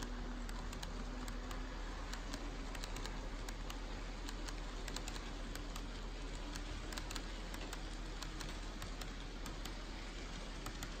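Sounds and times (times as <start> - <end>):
faint hum: 0.0 - 11.0
model train wheels ticking: 0.0 - 11.0
steady hiss: 0.0 - 11.0.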